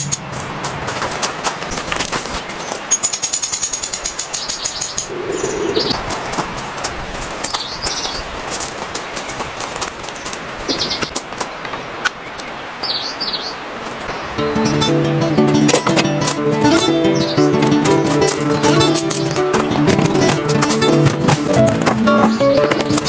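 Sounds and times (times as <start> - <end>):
birds chirping: 1.6 - 15.6, 16.9 - 23.0.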